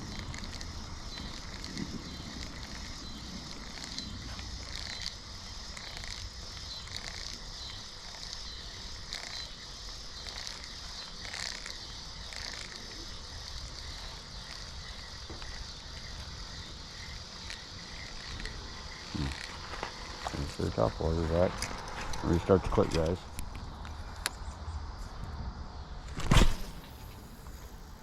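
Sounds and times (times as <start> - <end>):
insect chorus: 0.0 - 28.0.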